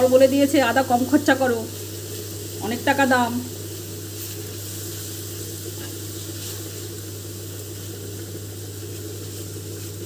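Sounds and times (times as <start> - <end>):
paste sizzling in oil: 0.0 - 10.0.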